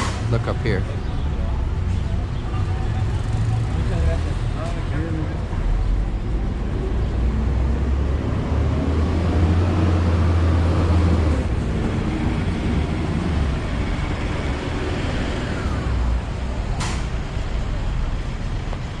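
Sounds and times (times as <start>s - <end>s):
city street traffic: 0.0s - 19.0s
heavy vehicle engine rumble: 0.0s - 19.0s.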